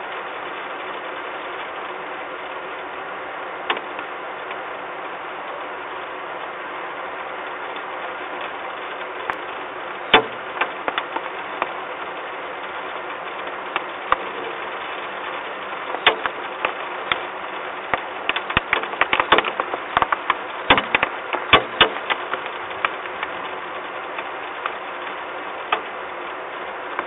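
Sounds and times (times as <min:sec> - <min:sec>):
rain hissing on a ledge: 0:00.0 - 0:27.0.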